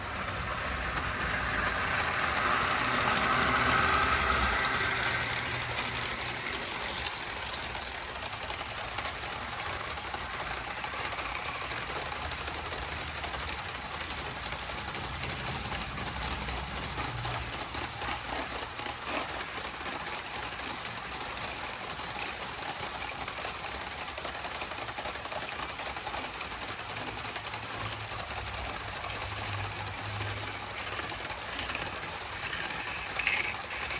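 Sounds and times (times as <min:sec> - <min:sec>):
train wheels clicking over rail joints: 0:00.0 - 0:33.9.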